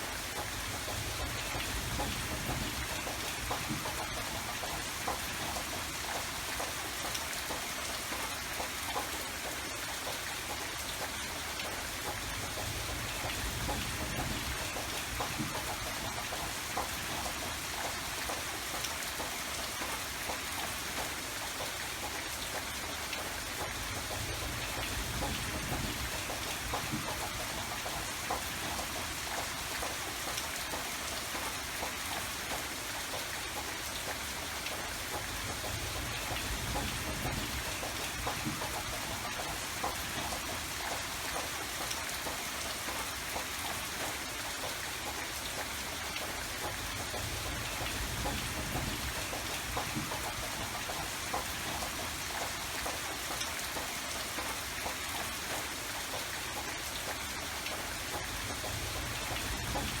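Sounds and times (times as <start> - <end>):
rain pattering on surfaces: 0.0 - 60.0.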